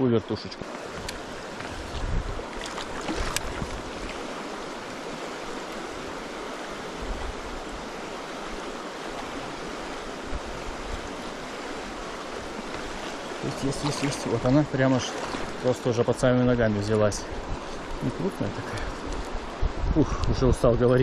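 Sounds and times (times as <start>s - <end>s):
river rushing over rocks: 0.0s - 19.8s.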